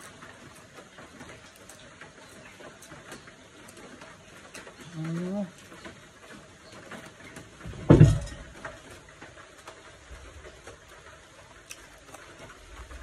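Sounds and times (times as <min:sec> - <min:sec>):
light rain on roof: 0:00.0 - 0:13.0.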